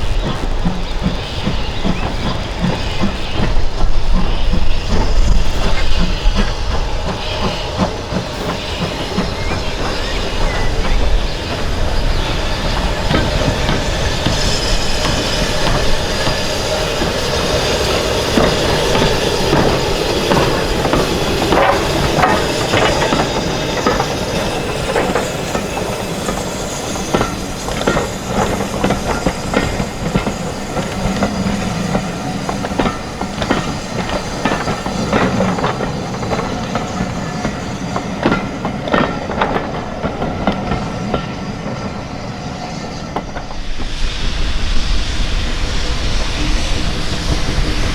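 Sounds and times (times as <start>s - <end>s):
wheels clicking over rail joints: 0.0s - 42.0s
train wheels rumbling on rails: 0.0s - 47.9s.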